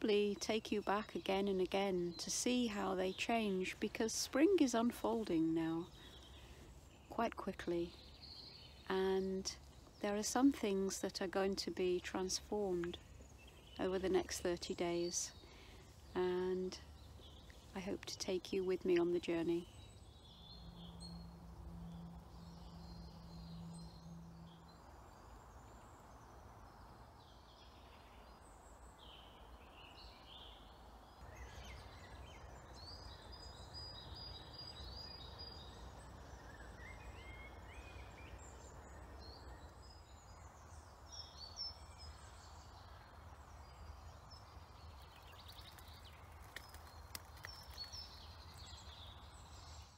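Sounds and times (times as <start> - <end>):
birds singing: 0.0 - 49.9.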